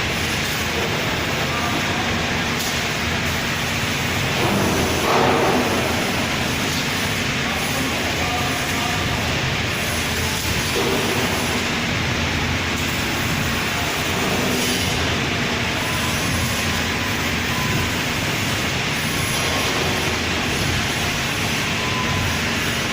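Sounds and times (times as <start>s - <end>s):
welding machine running: 0.0s - 22.9s.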